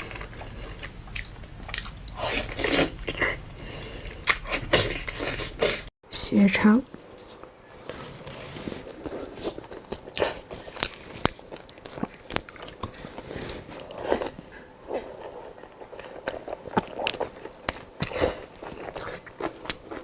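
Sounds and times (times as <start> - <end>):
biting and chewing food: 0.0 - 5.9, 7.0 - 20.0.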